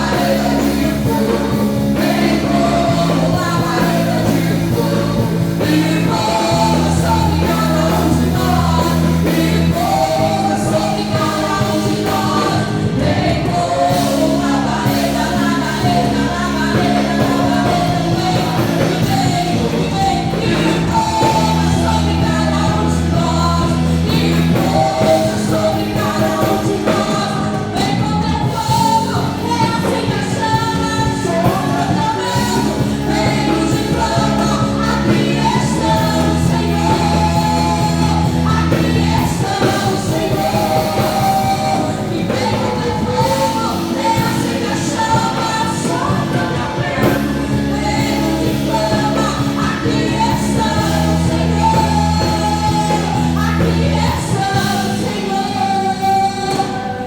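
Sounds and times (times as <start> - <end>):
band playing worship song: 0.0 - 57.0
people singing: 0.0 - 57.0
sustained bass notes: 0.0 - 57.0.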